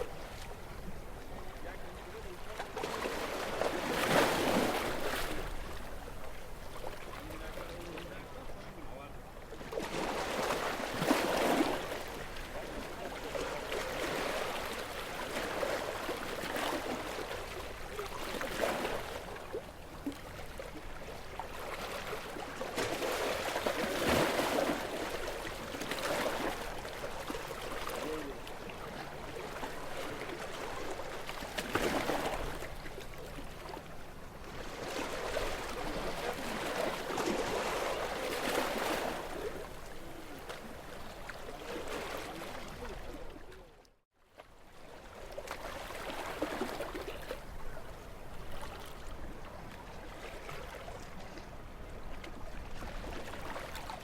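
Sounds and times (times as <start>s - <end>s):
sea waves washing ashore: 0.0s - 43.7s.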